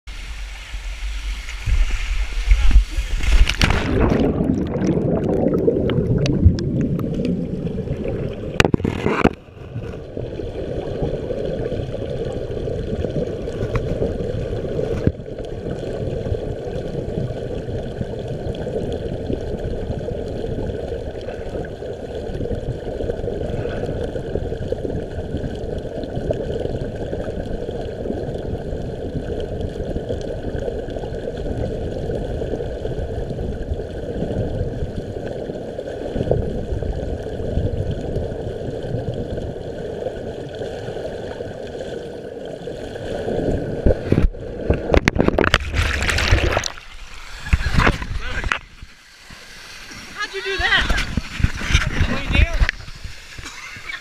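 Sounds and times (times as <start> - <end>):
underwater rumble of turbulent water: 0.1 - 54.0
water splashing and churning: 0.1 - 54.0.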